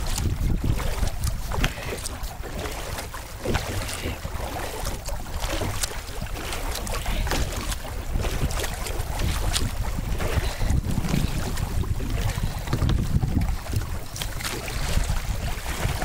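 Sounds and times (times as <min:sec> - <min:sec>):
kayak paddle splashing water: 0:00.0 - 0:16.0
wind buffeting the microphone: 0:00.0 - 0:16.0.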